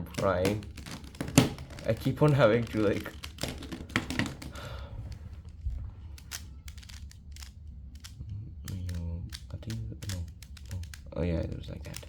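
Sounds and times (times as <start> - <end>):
speed cube layers clicking: 0.0 - 12.0.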